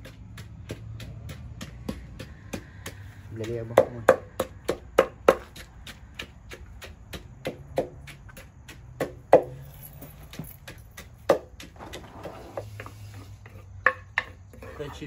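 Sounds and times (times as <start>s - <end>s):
wooden pestle pounding in mortar: 0.0s - 14.7s.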